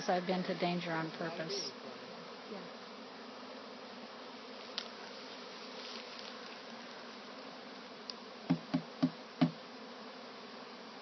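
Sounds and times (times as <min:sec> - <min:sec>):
bee swarm buzzing: 0:00.0 - 0:11.0.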